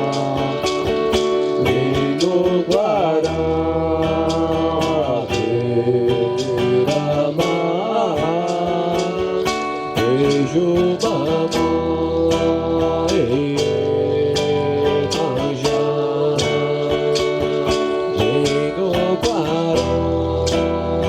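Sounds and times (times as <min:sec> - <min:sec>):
plucked acoustic guitar: 0:00.0 - 0:21.0.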